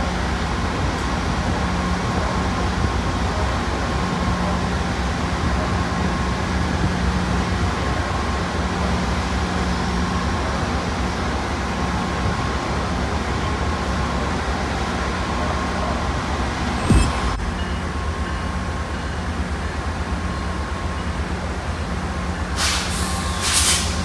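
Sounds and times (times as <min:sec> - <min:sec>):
diesel locomotive engine humming: 0:00.0 - 0:24.0.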